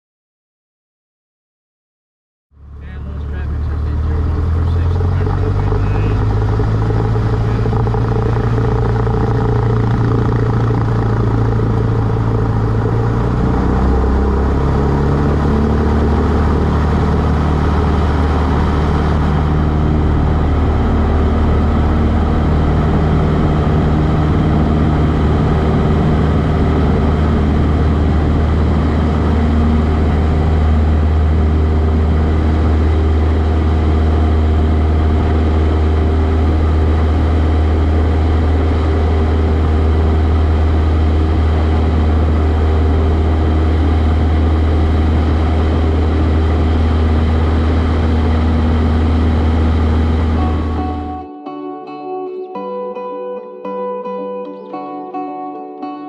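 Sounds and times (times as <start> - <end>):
light aircraft engine and propeller: 2.6 - 51.1.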